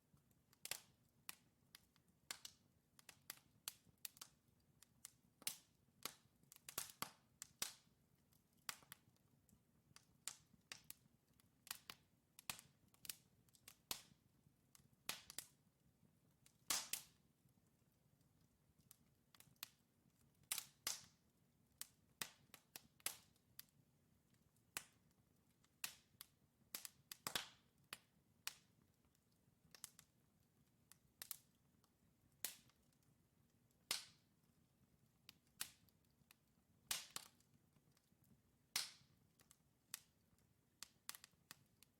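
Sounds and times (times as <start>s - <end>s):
wood fire crackling and popping: 0.1s - 41.9s.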